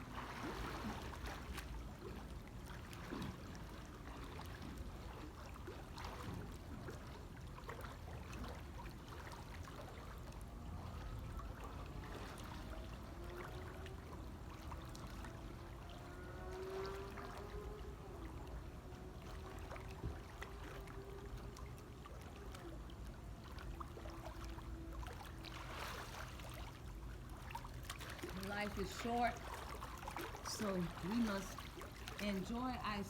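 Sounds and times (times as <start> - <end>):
pool water splashing: 0.0 - 33.0.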